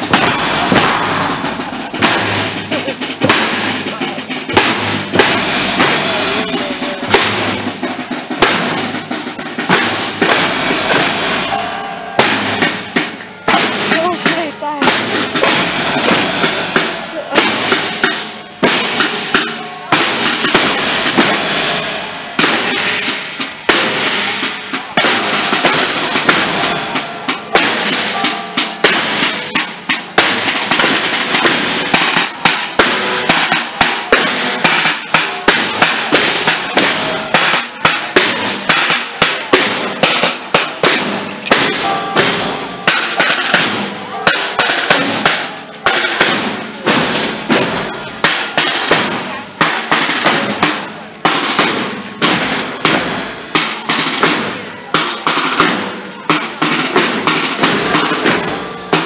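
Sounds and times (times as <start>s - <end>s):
marching snare drums: 0.0s - 59.0s.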